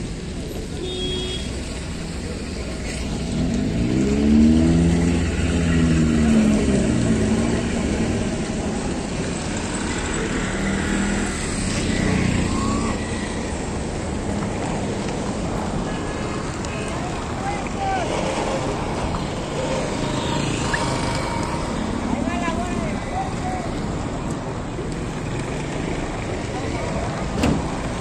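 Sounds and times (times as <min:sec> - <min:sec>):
cars driving past: 0:01.5 - 0:28.0.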